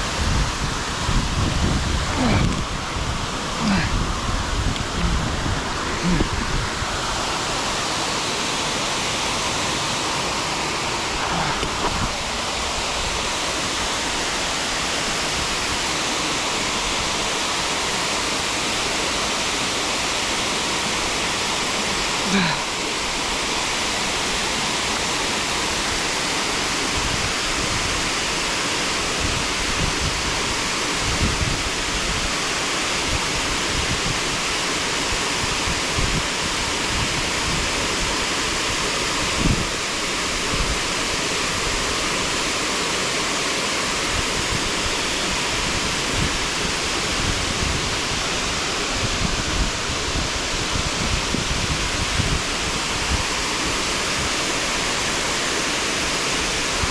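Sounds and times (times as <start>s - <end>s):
mountain stream rushing: 0.0s - 56.9s.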